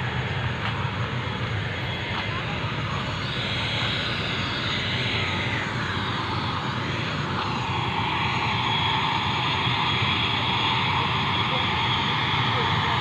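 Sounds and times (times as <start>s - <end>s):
high engine whine: 0.0s - 13.0s
turboprop engines running: 0.0s - 13.0s.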